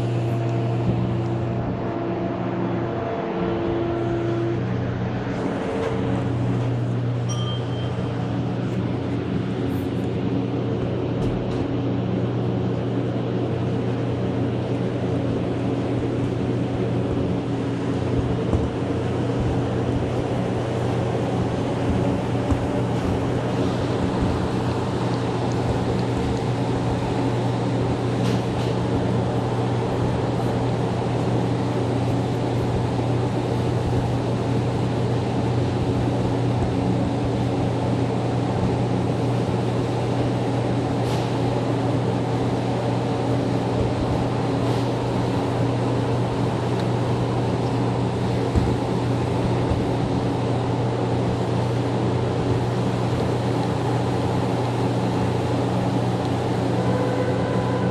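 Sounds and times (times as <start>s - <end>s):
train rumble with low hum: 0.0s - 57.9s.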